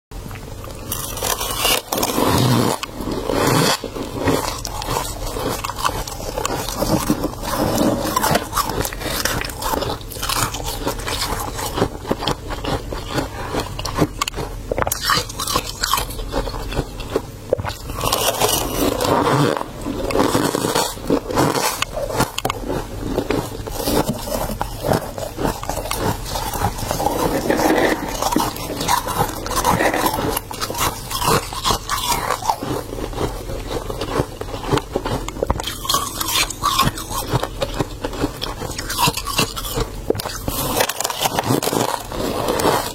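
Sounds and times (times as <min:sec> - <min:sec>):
frost being chewed and scraped: 0:00.2 - 0:42.9.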